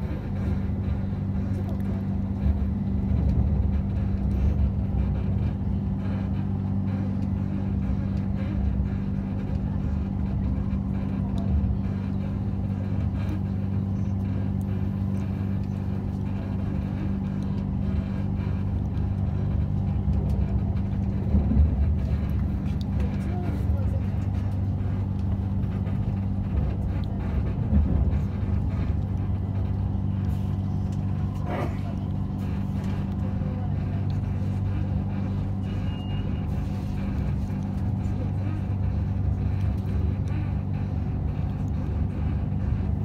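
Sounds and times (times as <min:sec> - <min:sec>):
constant low hum: 0:00.0 - 0:43.0
train rumbling in motion: 0:00.0 - 0:43.0.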